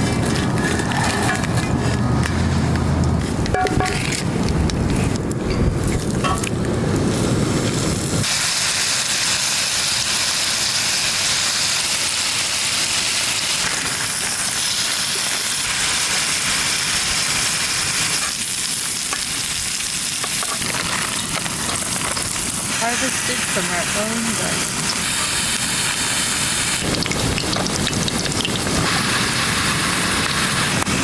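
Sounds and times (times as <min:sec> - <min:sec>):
steak sizzling over a campfire: 0:00.0 - 0:31.0.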